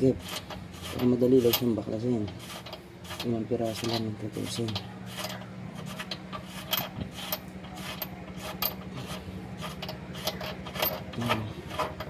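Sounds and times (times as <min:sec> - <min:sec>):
ratchet wrench clicking: 0:00.1 - 0:12.0.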